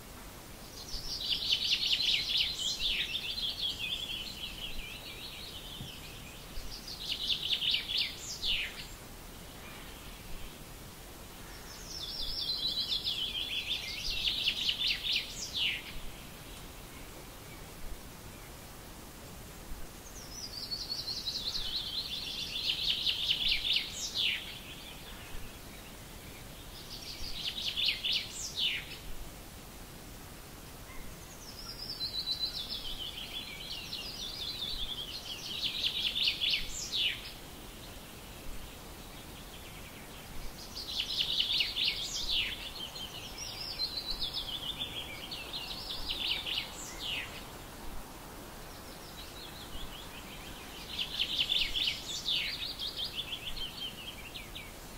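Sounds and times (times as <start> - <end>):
faint background hiss: 0.0 - 54.9
songbird singing: 0.0 - 54.9.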